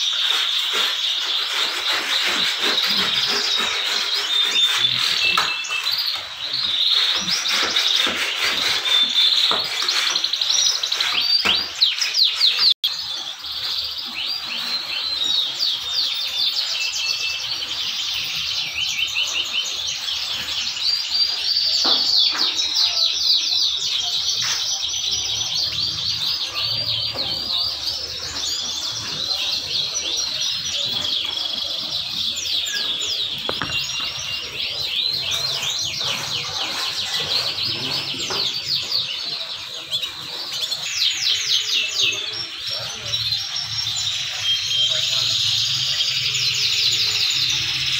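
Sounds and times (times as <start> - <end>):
canaries singing trills and chirps: 0.0 - 47.9.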